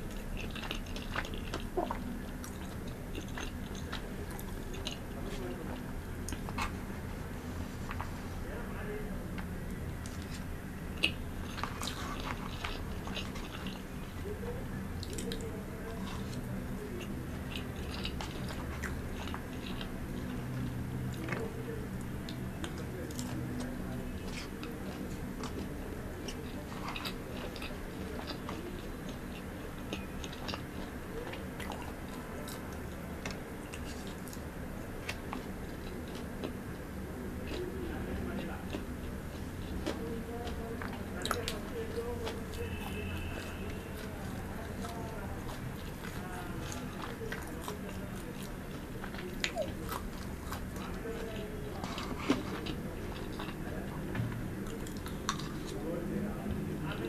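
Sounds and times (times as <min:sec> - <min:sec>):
chewing with soft crunches: 0:00.0 - 0:57.0
steady low hum: 0:00.0 - 0:57.0.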